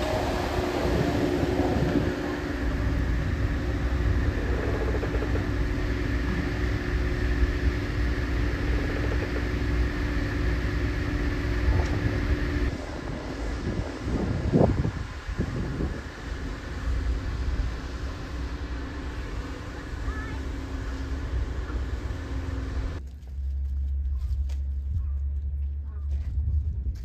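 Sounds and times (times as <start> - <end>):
engine hum: 0.0 - 27.0
low rumble: 0.0 - 27.0.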